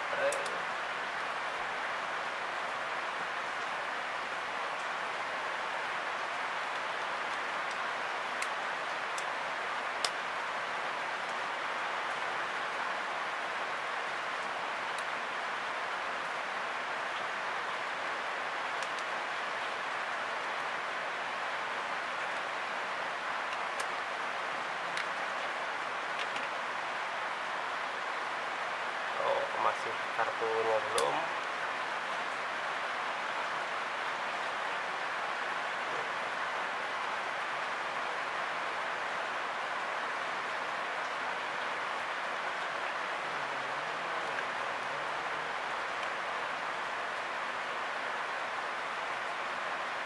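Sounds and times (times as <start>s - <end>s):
rain hissing: 0.0s - 50.0s.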